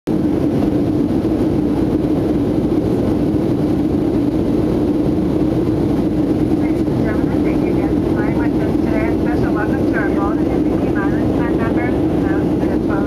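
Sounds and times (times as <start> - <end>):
jet cabin drone: 0.1 - 13.0.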